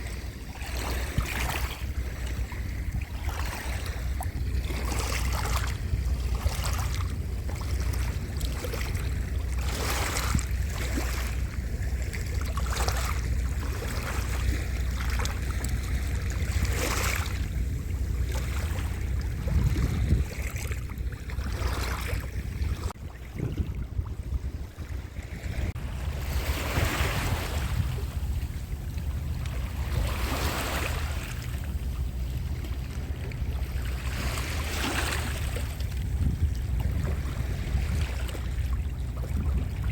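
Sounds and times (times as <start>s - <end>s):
waves breaking on shore: 0.0s - 39.9s
wind rumble on microphone: 0.0s - 39.9s.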